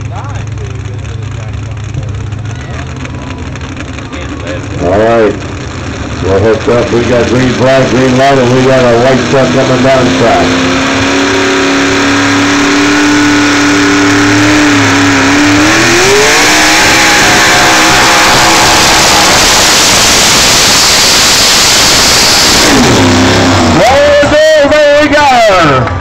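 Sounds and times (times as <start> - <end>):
truck engine at full throttle: 0.0 - 26.0.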